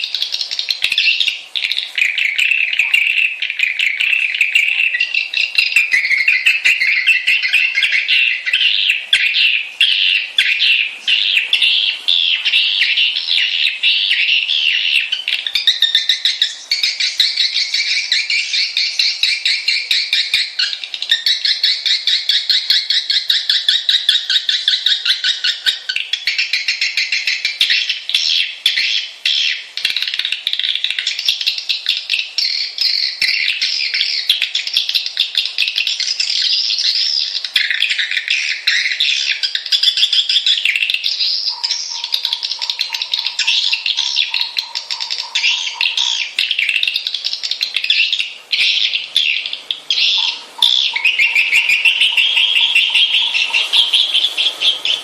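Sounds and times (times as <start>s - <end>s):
swiftlets twittering: 0.0s - 55.0s.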